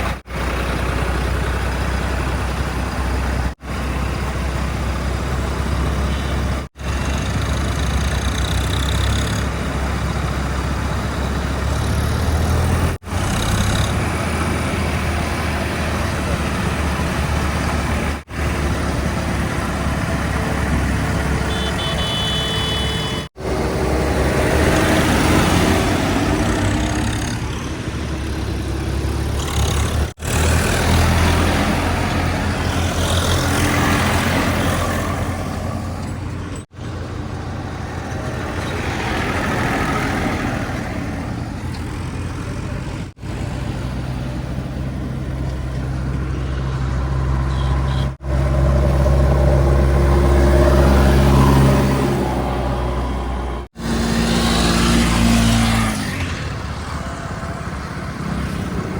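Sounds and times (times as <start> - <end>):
diesel engines revving: 0.0 - 58.9.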